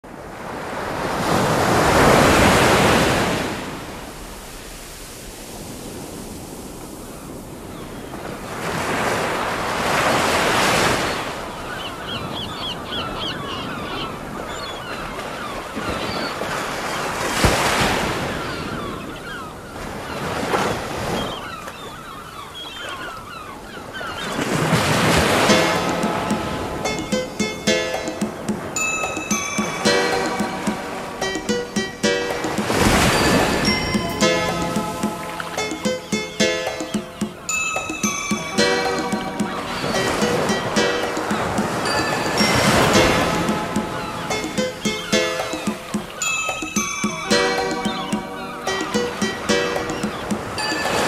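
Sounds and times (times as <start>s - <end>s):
ocean waves breaking on shore: 0.0s - 51.0s.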